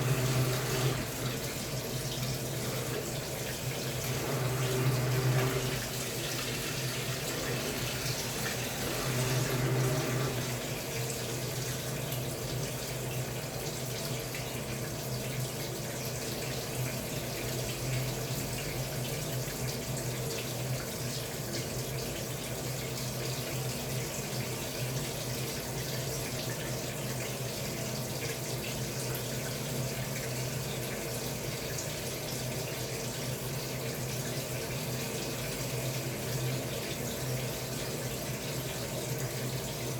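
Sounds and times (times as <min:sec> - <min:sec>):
washing machine hum: 0:00.0 - 0:39.9
washing machine water rushing: 0:00.0 - 0:39.9.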